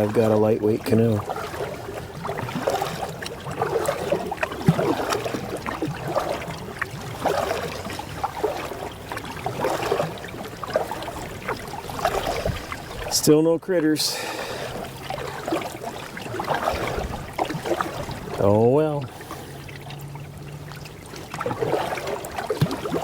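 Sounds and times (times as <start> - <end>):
paddle splashing in water: 0.0 - 23.0.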